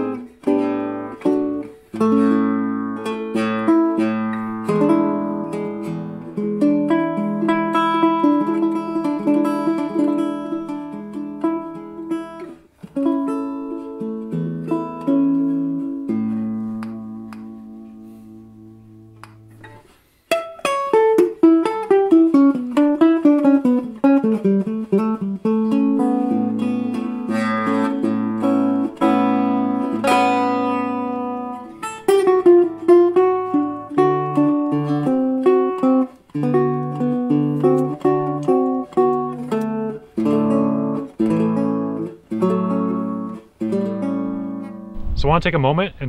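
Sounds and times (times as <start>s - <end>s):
plucked guitar music: 0.0s - 45.9s.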